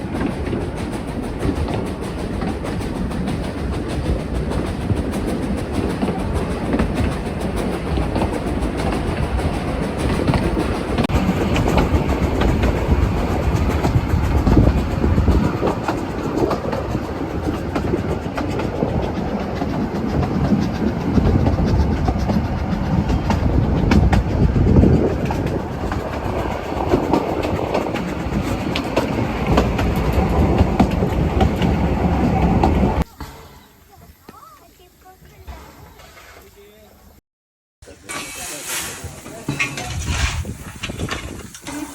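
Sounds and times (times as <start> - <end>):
train wheels clattering on rails: 0.0 - 33.3, 37.9 - 41.9.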